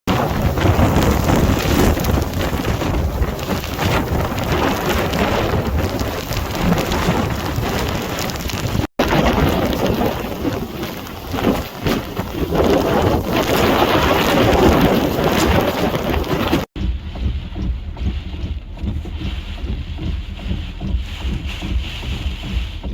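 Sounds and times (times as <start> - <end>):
hurricane wind: 0.0 - 22.9
driving rain: 0.1 - 22.9.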